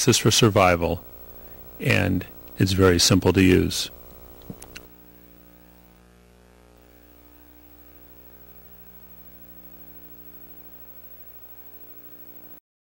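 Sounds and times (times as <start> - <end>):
faint hiss: 0.0 - 12.6
low electrical hum: 0.0 - 12.6.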